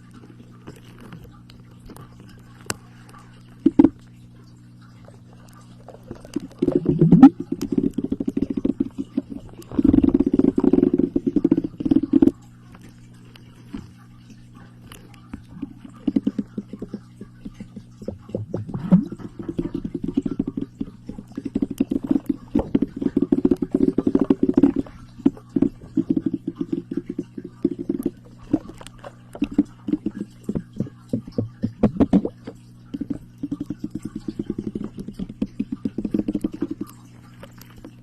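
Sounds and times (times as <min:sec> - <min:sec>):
low steady hum: 0:00.0 - 0:38.0
rapid clicks and taps: 0:00.7 - 0:04.0, 0:05.5 - 0:38.0.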